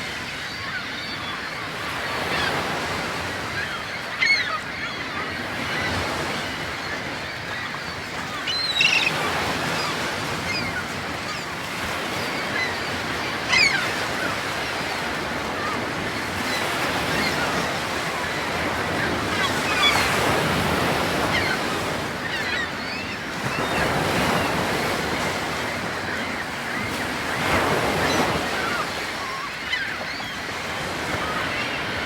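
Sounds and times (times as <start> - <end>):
sea waves rushing: 0.0 - 32.0.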